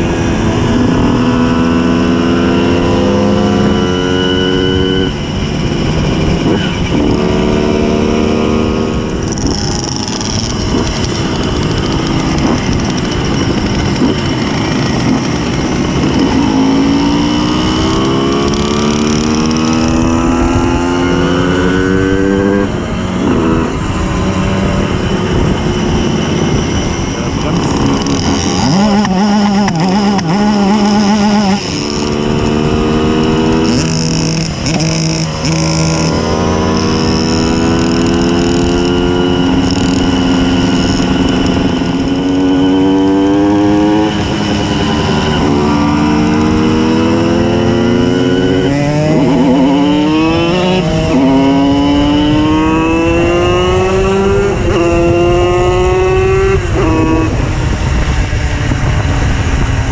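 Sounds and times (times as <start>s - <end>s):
moped two-stroke engine accelerating: 0.0s - 59.9s.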